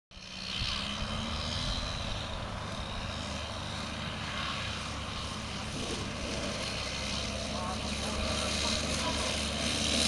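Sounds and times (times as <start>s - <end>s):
steady mechanical drone: 0.2s - 10.0s.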